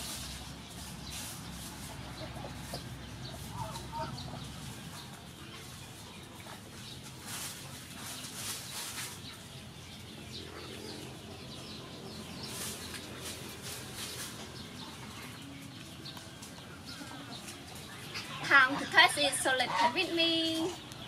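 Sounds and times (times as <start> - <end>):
distant chickens calling: 0.0 - 21.0
faint birds calling: 0.0 - 21.0.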